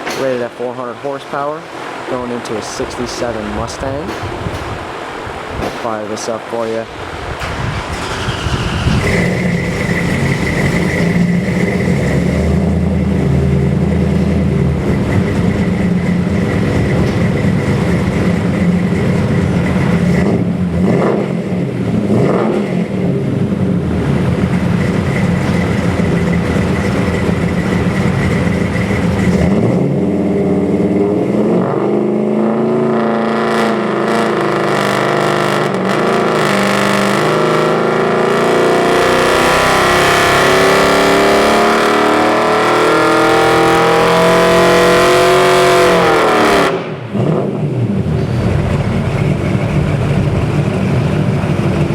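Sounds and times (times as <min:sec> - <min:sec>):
engine idling and revving: 0:07.0 - 0:51.9.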